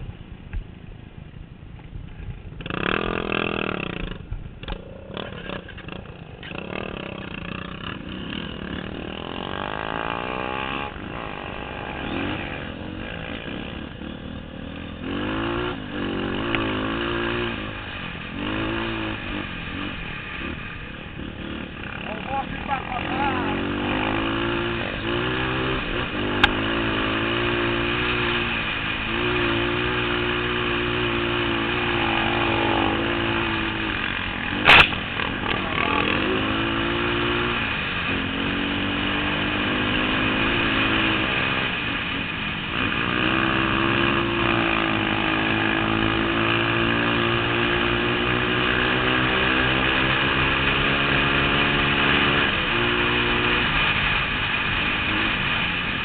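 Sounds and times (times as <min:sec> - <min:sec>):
motorcycle engine revving: 0:02.2 - 0:56.0.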